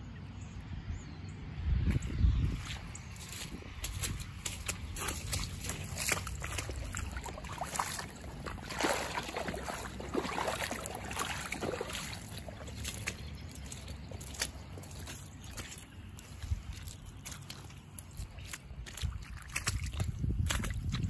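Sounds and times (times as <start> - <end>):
boot sloshing through puddle: 1.7 - 21.0
footsteps through wet grass and mud: 1.7 - 21.0.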